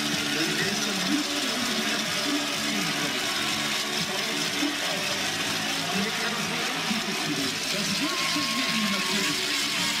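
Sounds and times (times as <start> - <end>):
crowd cheering and shouting: 0.0 - 10.0.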